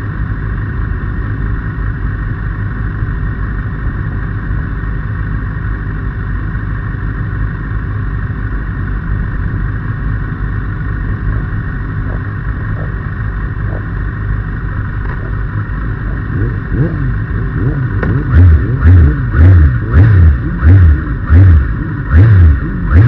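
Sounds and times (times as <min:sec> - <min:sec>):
motorcycle engine idling: 0:00.0 - 0:23.0
other motorcycles idling: 0:00.0 - 0:23.0.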